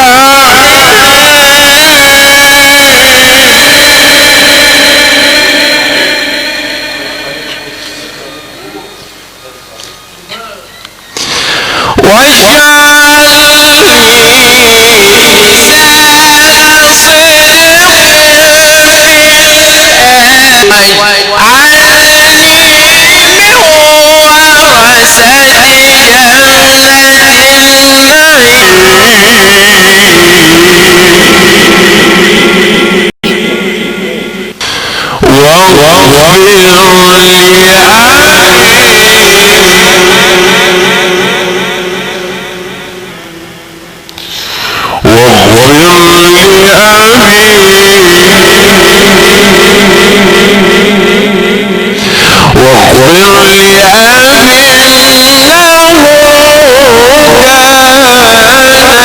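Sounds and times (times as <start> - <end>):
man reciting melodically: 0.0 - 43.4, 44.1 - 59.0.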